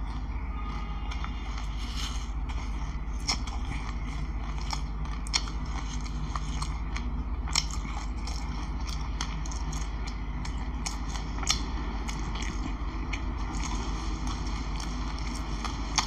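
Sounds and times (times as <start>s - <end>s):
crunchy chewing: 0.0s - 16.0s
low electrical hum: 0.0s - 16.0s.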